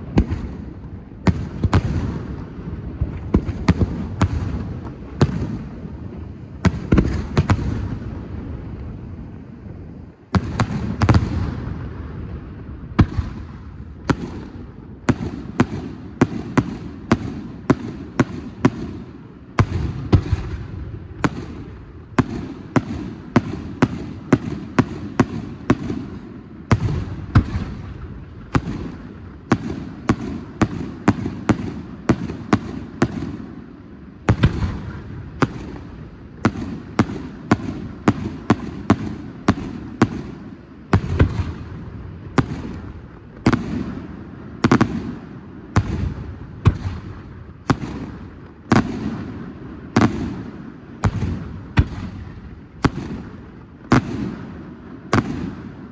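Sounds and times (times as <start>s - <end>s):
fireworks bangs: 0.0s - 55.9s.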